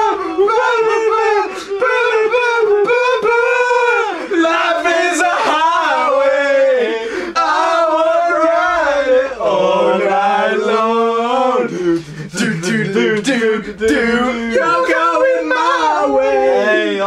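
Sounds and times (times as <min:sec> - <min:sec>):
men chanting and singing: 0:00.0 - 0:17.0.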